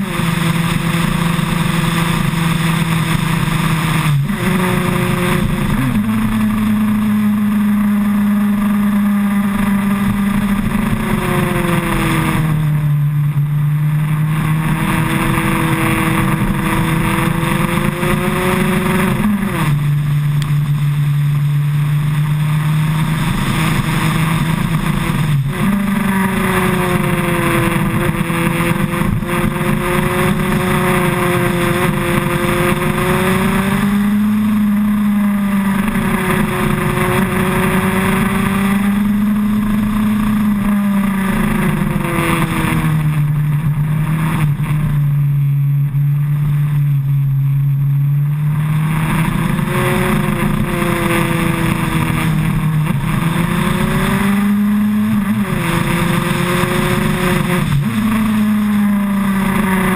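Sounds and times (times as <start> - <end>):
rush of wind noise: 0.0 - 45.2, 48.4 - 59.9
motorcycle engine running: 0.0 - 59.9.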